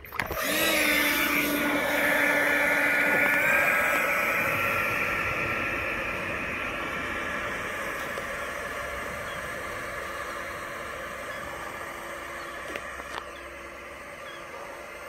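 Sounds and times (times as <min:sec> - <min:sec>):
electric fan high whine: 0:00.0 - 0:15.0
water spray hissing: 0:00.2 - 0:15.0.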